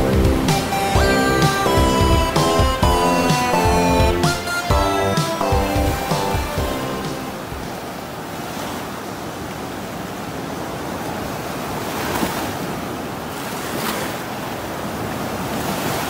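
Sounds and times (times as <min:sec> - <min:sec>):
waves breaking on beach: 0:00.3 - 0:03.6, 0:06.1 - 0:16.0.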